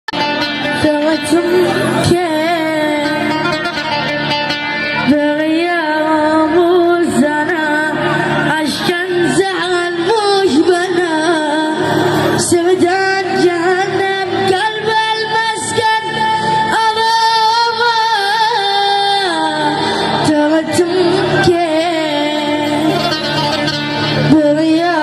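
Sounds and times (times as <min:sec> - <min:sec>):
instrumental accompaniment: 0:00.1 - 0:25.0.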